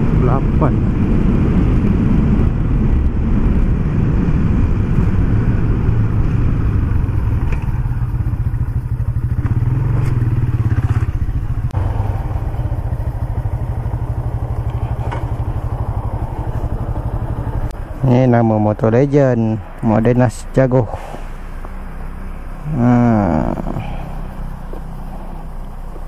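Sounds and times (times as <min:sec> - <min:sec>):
motorcycle engine running: 0:00.0 - 0:19.5, 0:21.4 - 0:26.0.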